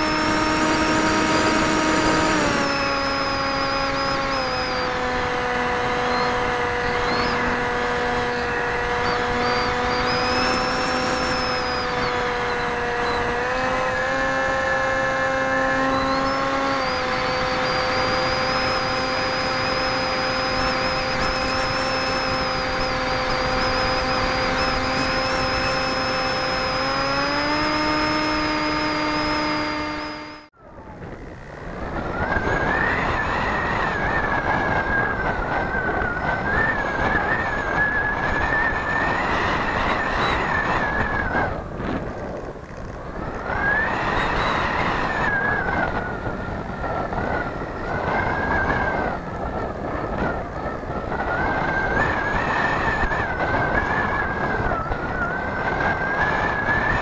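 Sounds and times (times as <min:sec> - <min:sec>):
model aircraft motor whine: 0:00.0 - 0:57.0.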